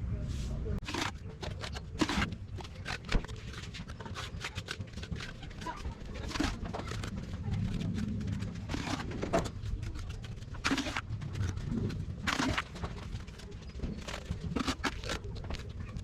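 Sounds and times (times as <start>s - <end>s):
low steady rumble: 0.0s - 16.0s
tools scraping wet concrete: 0.8s - 16.0s.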